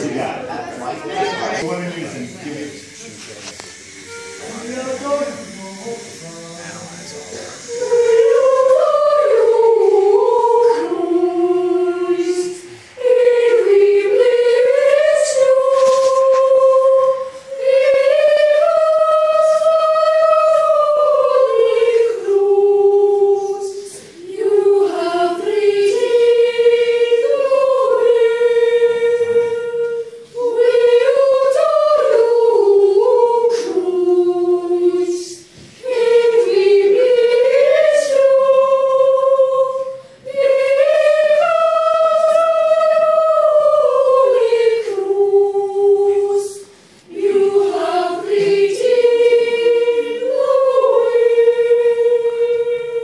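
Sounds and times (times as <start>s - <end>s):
boys' choir singing a cappella: 0.0s - 53.0s.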